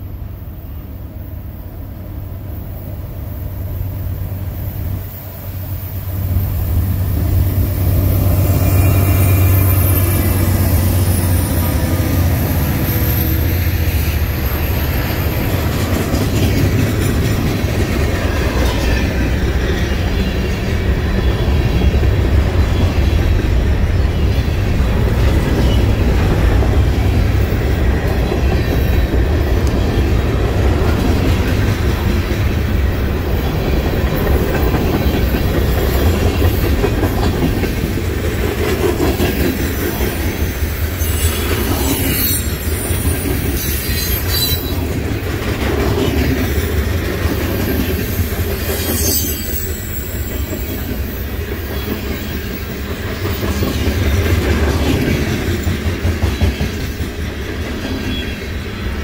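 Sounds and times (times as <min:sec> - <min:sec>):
diesel locomotives passing: 0:00.0 - 0:59.0
freight cars wheel and rail clatter: 0:03.7 - 0:59.0.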